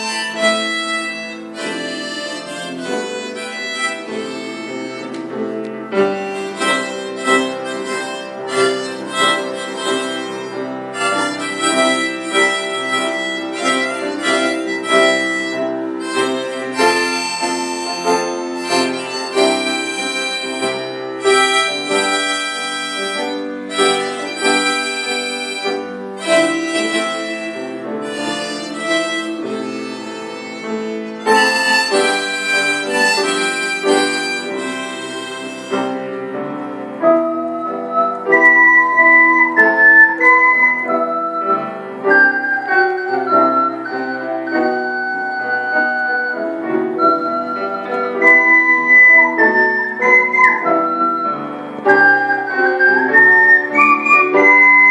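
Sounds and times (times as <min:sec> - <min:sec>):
backing track with steady beat: 0:00.0 - 0:54.9
saxophone slow melody: 0:00.0 - 0:54.9.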